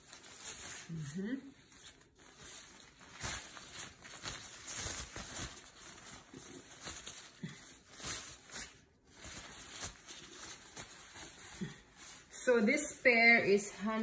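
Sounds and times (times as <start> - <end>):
wrapping rustling and crumpling: 0.0 - 14.0.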